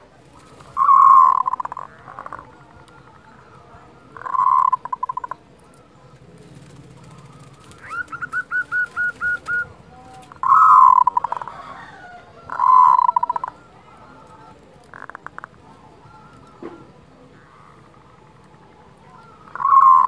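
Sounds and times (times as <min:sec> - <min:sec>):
dove trilled cooing: 0:00.0 - 0:20.0.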